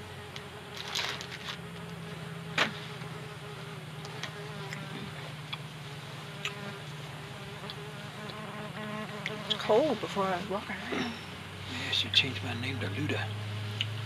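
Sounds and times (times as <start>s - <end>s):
bee buzzing: 0.0s - 14.0s.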